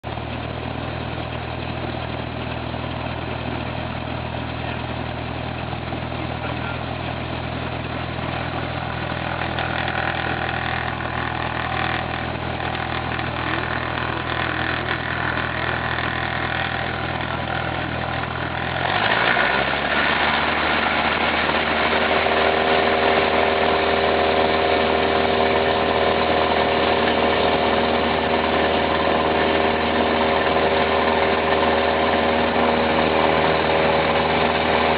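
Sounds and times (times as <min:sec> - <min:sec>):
propeller plane engine running: 0:00.0 - 0:34.9.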